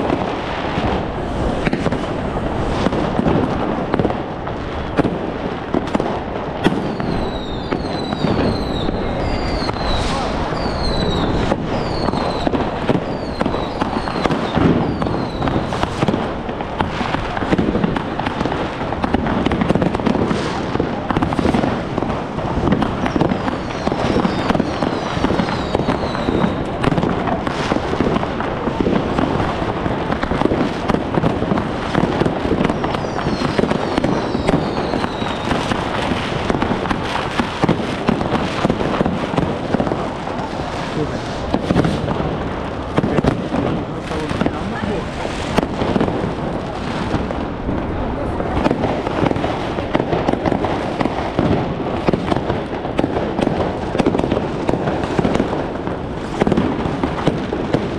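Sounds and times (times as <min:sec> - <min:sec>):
fireworks crackling and banging: 0:00.0 - 0:57.9
fireworks whistling: 0:00.0 - 0:57.9.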